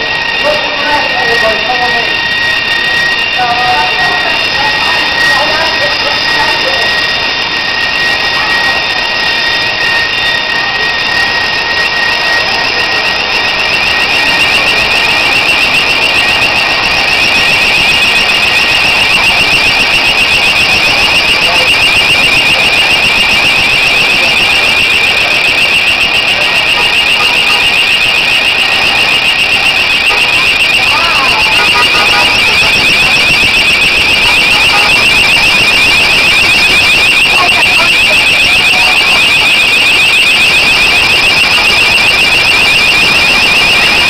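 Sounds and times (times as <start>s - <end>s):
fire alarm tone: 0.0s - 44.0s.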